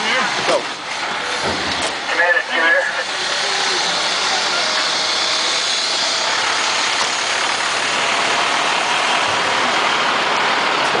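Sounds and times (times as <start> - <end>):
fire engine diesel engine running: 0.0 - 11.0.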